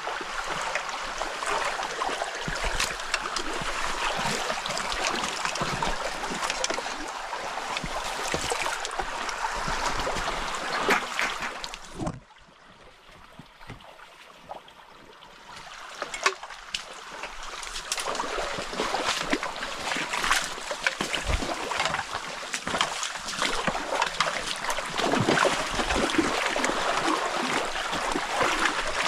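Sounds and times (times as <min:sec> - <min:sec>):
stream water rushing and splashing: 0:00.0 - 0:29.0.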